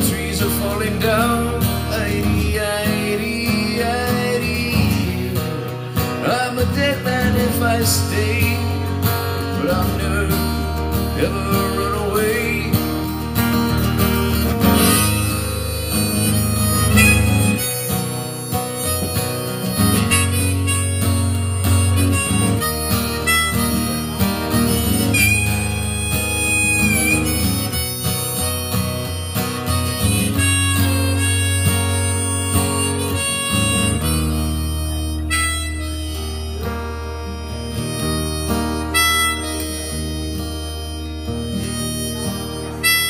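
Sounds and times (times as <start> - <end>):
acoustic guitar accompaniment: 0.0 - 43.0
harmonica solo: 0.0 - 43.0.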